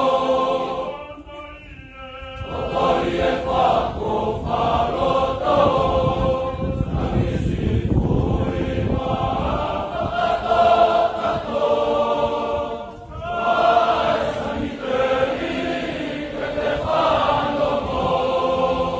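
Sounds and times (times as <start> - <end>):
boys choir singing in unison: 0.0 - 18.9.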